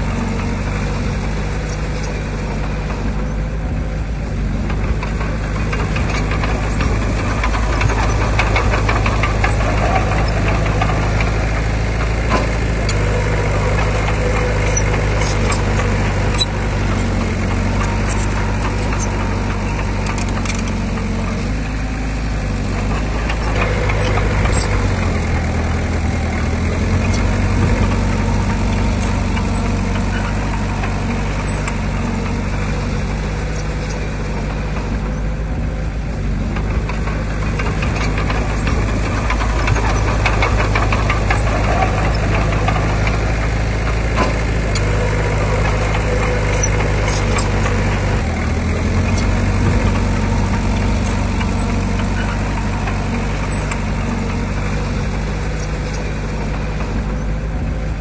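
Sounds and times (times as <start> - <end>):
heavy diesel engine running: 0.0 - 58.0
clattering and rattling: 4.5 - 58.0.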